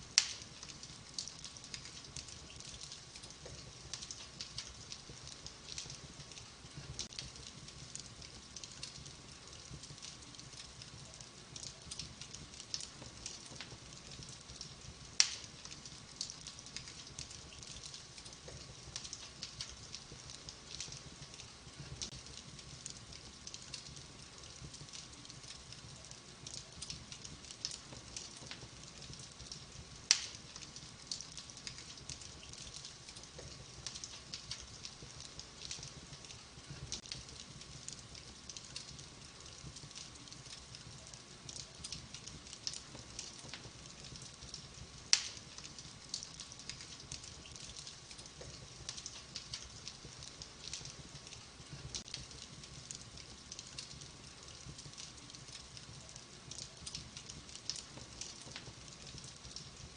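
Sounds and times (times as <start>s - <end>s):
sharp pops from fire: 0.0s - 59.9s
wood fire crackling: 0.0s - 59.9s.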